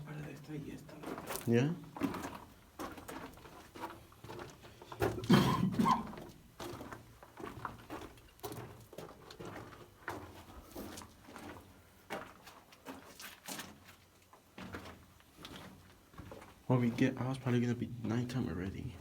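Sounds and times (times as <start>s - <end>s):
footsteps on gravel: 0.8s - 18.3s.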